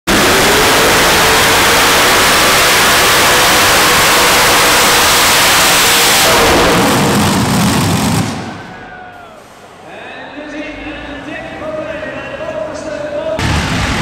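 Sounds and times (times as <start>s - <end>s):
pulling tractor engines at full power: 0.1s - 8.7s, 10.5s - 14.0s.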